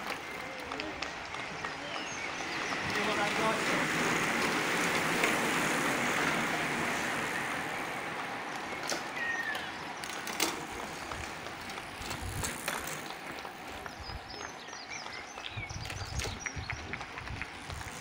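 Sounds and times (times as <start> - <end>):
bike tyres hissing on tarmac: 0.0 - 18.0.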